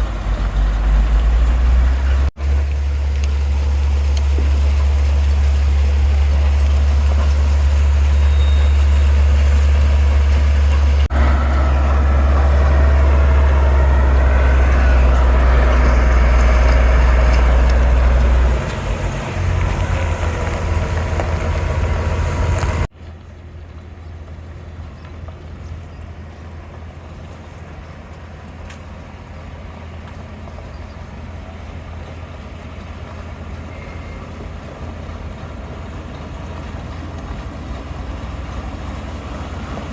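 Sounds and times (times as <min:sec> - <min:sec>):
heavy machinery engines rumbling: 0:00.0 - 0:39.9
quieter steady machine noise: 0:00.0 - 0:39.9.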